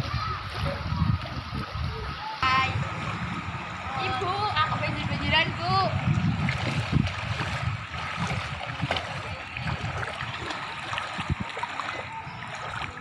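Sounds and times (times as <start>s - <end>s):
floodwater flowing and sloshing: 0.0s - 13.0s
splashes of wading: 0.0s - 13.0s.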